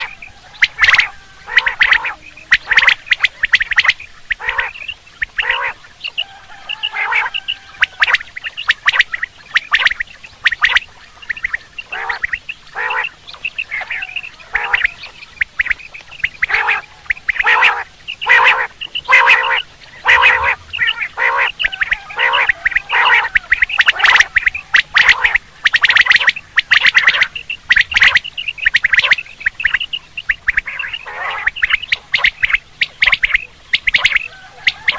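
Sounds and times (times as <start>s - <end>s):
quail calling: 0.0s - 34.9s.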